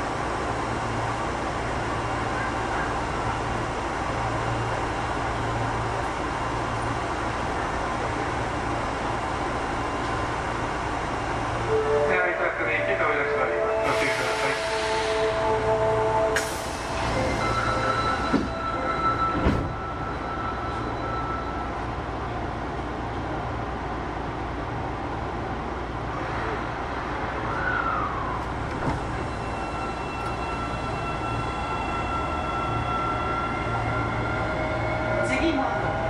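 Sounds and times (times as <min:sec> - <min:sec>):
subway train running rumble: 0:00.0 - 0:36.0.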